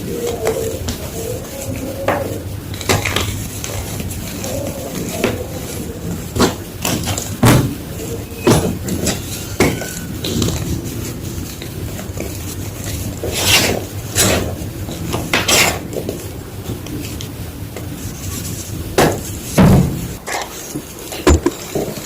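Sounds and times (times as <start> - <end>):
chalk crunching: 0.0 - 22.0
chalk rubbing and crumbling: 0.0 - 22.0.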